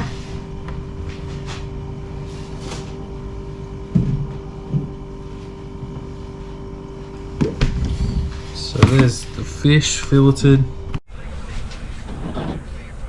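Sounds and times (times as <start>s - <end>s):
mechanical hum with tones: 0.0s - 13.0s.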